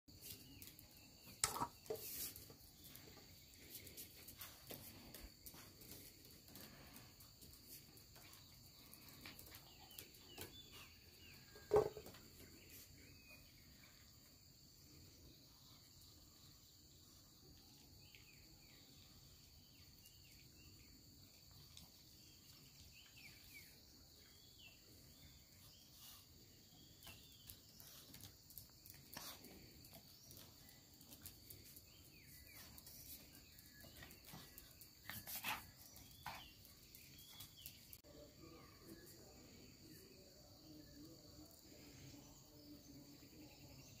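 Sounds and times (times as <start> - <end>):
faint chirps: 0.1 - 44.0.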